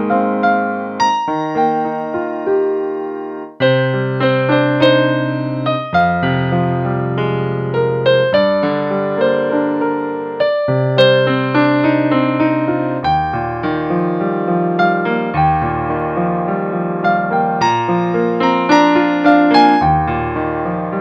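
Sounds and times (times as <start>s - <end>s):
digital piano playing: 0.0s - 21.0s.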